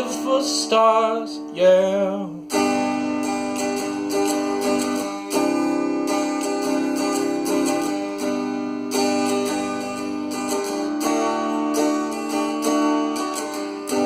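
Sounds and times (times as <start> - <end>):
guitar plucking notes: 0.0 - 14.0.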